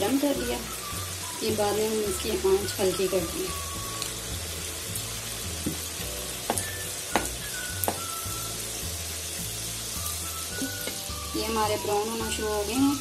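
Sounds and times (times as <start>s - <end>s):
faint background music: 0.0s - 13.0s
oil sizzling and bubbling: 0.0s - 13.0s.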